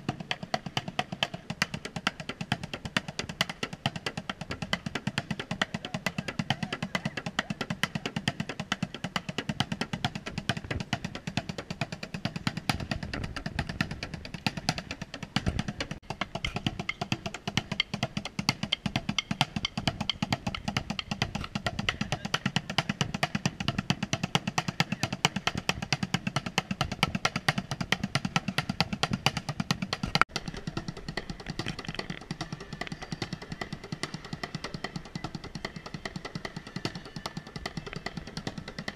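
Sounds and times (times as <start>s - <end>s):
bucket drumming: 0.0s - 38.9s.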